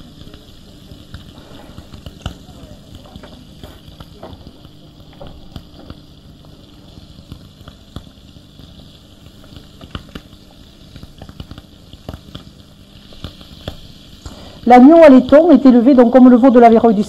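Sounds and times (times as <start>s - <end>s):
faint steady hum: 0.0s - 17.0s
meat sizzling in a frying pan: 0.0s - 17.0s.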